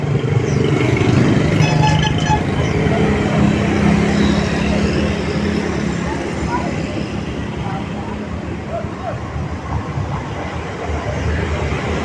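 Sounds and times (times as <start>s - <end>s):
motorcycles passing: 0.0s - 12.0s
street traffic passing: 0.0s - 12.0s.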